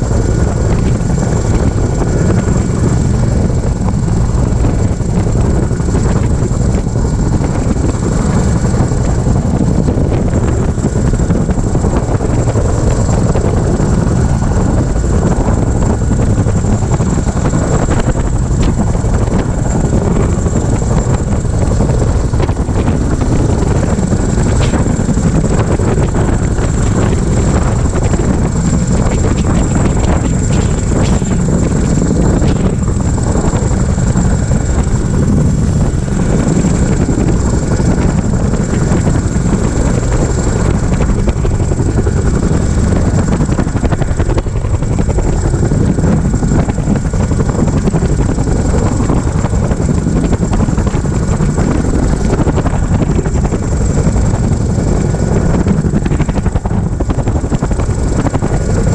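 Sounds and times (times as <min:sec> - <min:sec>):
helicopter rotors and engines: 0:00.0 - 0:58.9.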